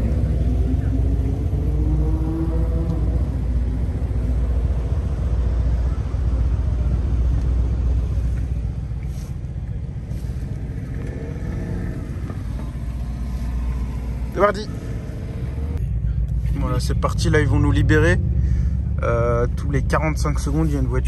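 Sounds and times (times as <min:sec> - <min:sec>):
car engine idling: 0:02.8 - 0:21.0.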